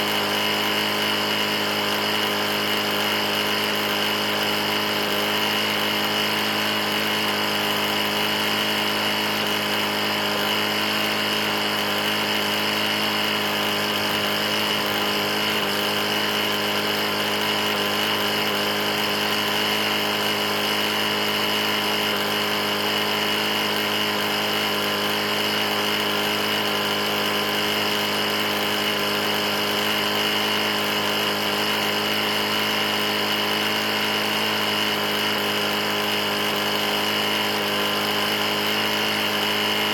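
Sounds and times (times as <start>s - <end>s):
knocking lawn mower engine: 0.0s - 39.9s.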